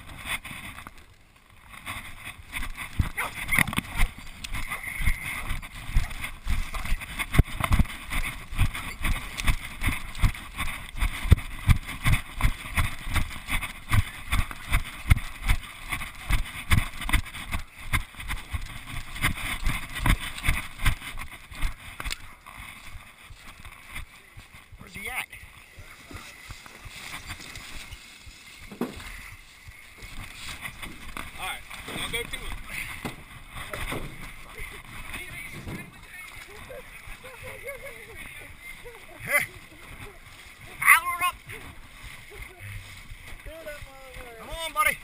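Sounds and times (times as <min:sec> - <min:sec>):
footsteps in dry leaves: 0:00.0 - 0:45.0.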